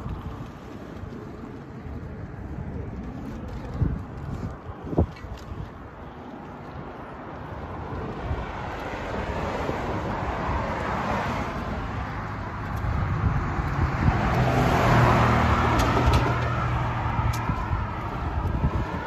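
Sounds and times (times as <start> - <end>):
tyre and engine noise of traffic: 0.0 - 19.0
vehicle engine hum passing: 0.0 - 19.0.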